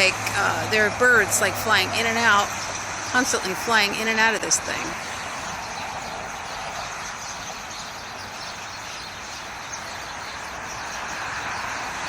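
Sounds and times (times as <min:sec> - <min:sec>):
flock of birds chirping: 0:00.0 - 0:12.0
road traffic rushing: 0:00.0 - 0:12.0.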